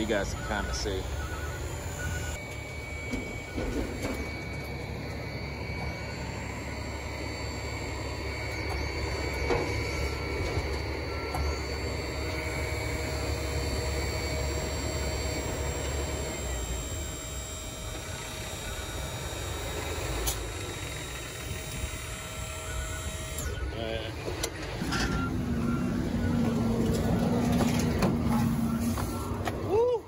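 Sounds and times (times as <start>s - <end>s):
hydraulic pump whining: 0.0s - 29.7s.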